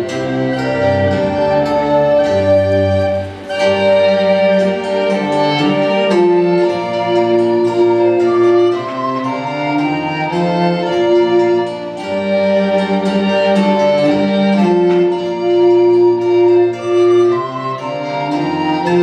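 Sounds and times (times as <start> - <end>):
bowed strings slow melody: 0.0 - 19.0.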